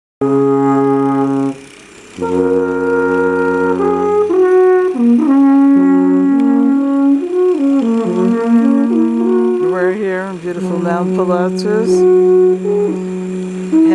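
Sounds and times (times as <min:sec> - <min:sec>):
alphorns playing in harmony: 0:00.2 - 0:13.9.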